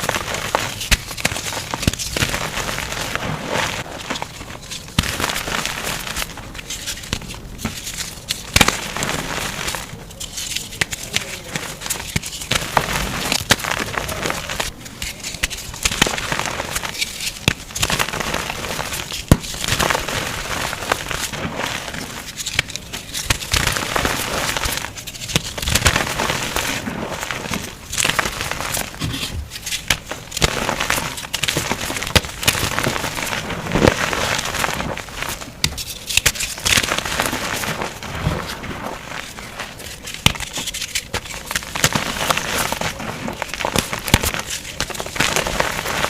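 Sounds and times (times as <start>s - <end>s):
chalk being crushed: 0.0s - 46.0s.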